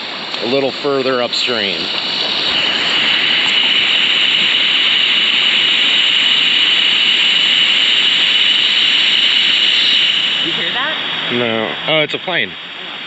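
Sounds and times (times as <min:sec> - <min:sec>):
jet airplane passing overhead: 0:00.0 - 0:13.0.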